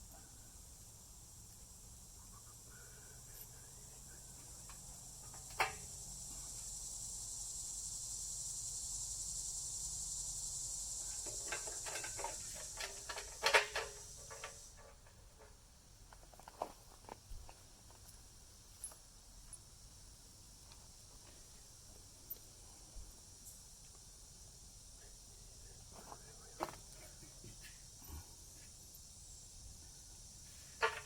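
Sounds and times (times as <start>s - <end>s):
high-pitched hiss: 0.0s - 15.6s, 18.0s - 31.0s.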